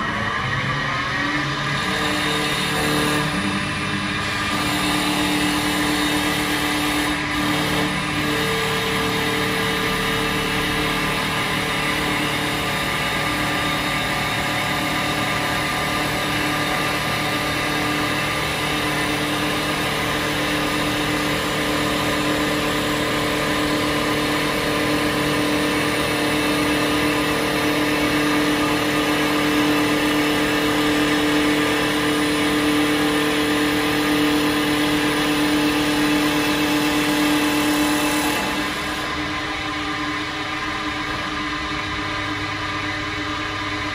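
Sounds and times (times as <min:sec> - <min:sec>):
cutter shaving spinning wood: 0:00.0 - 0:41.6
lathe spindle whine: 0:00.0 - 0:43.9.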